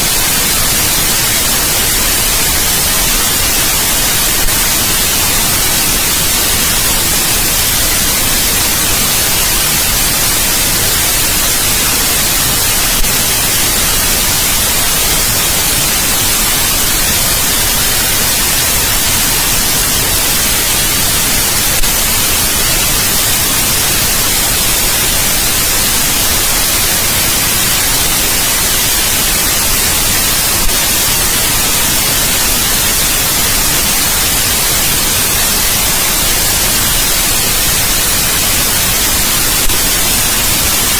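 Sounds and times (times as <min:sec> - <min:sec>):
loud white noise hiss: 0:00.0 - 0:40.9.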